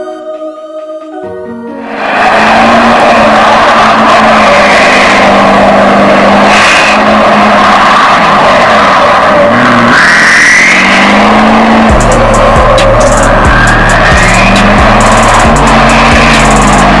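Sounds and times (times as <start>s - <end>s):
rising whine: 1.8s - 17.0s
tires squealing: 1.8s - 17.0s
diesel engine at high revs: 2.0s - 17.0s.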